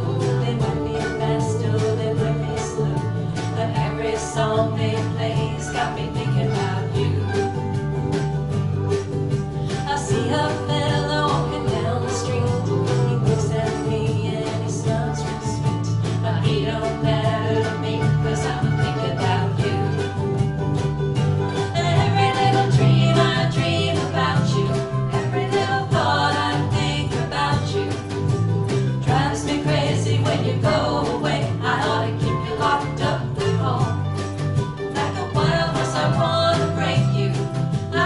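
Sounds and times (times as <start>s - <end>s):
person singing: 0.0s - 7.7s, 9.6s - 20.3s, 21.5s - 28.2s, 29.0s - 34.2s, 34.8s - 38.0s
country-folk band playing: 0.0s - 38.0s.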